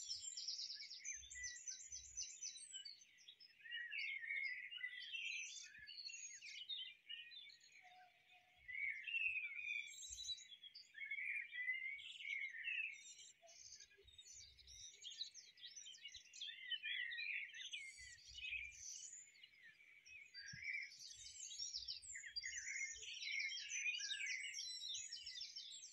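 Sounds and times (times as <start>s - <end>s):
songbirds chirping and trilling: 0.0s - 25.9s.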